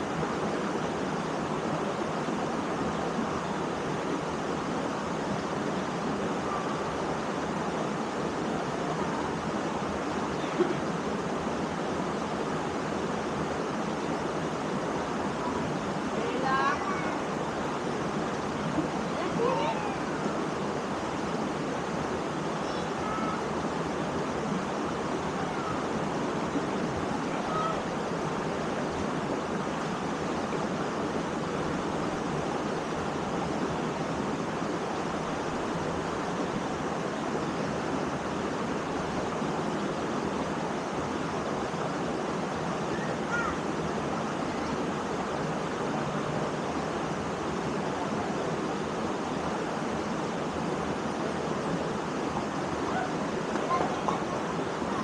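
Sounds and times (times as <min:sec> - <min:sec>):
waterfall rushing water: 0:00.0 - 0:55.0.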